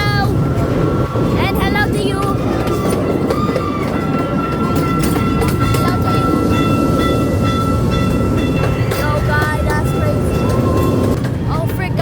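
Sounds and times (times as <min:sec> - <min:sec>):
train rumble and clatter: 0:00.0 - 0:12.0.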